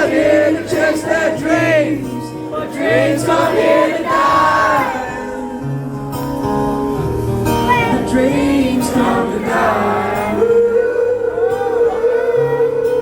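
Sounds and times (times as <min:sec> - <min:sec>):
live band music with singing: 0:00.0 - 0:13.0.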